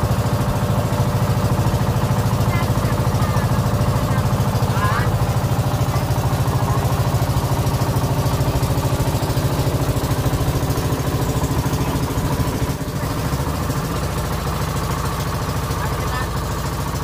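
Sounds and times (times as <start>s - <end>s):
boat engine puttering: 0.0s - 17.0s.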